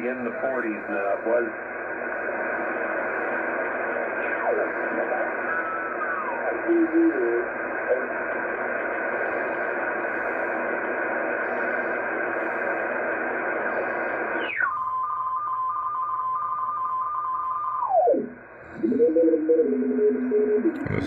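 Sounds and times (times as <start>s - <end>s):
radio static hiss: 0.0s - 21.0s
radio tuning whistle: 2.2s - 8.2s, 9.2s - 20.7s.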